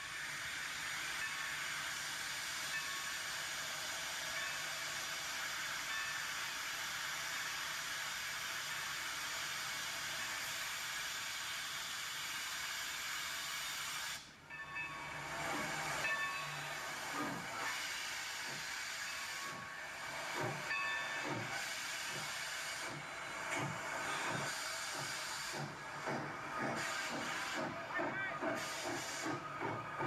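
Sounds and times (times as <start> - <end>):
steam locomotive hissing steam: 0.0 - 30.0.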